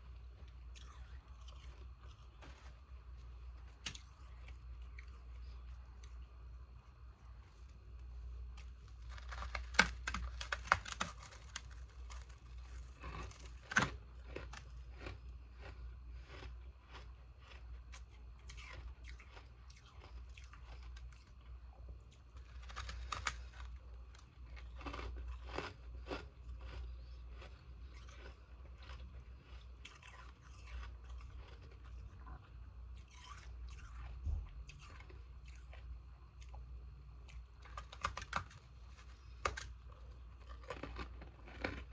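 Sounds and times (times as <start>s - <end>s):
ice being chewed: 0.0s - 41.9s.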